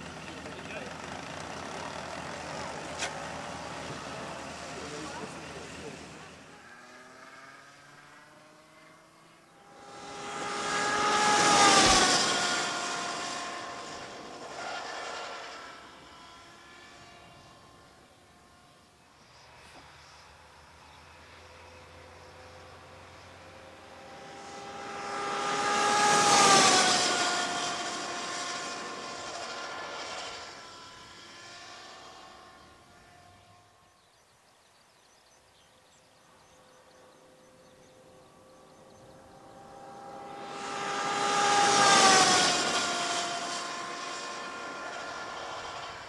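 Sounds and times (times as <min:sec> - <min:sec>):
electric motorcycle whine passing: 0:00.0 - 0:46.0.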